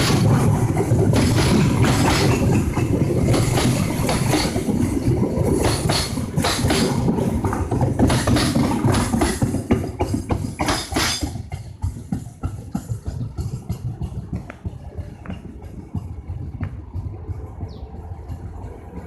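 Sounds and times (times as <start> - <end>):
low train rumble: 0.0 - 19.0
train wheels clacking on rails: 0.0 - 19.0.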